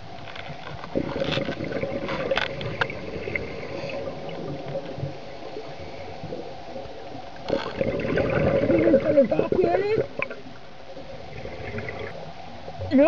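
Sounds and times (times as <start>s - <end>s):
faint steady hum: 0.0s - 13.0s
underwater rushing and bubbling: 0.0s - 13.0s.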